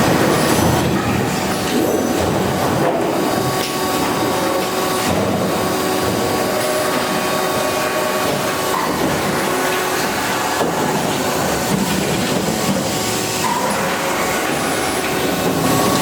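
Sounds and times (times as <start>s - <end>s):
faint machine whines: 0.0s - 16.0s
industrial machinery running: 0.0s - 16.0s.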